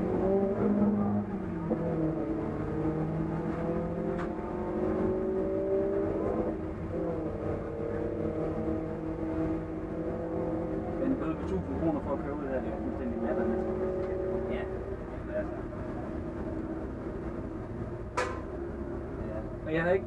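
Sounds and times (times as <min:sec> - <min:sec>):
race car engine running: 0:00.0 - 0:20.0.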